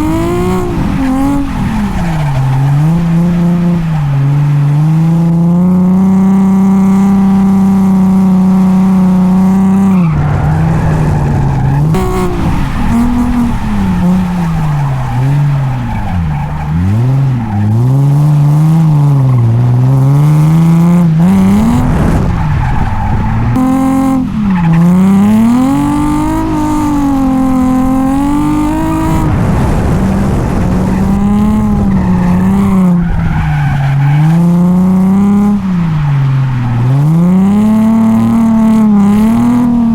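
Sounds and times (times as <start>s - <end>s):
car engine revving: 0.0s - 39.9s
tyres skidding: 0.0s - 39.9s.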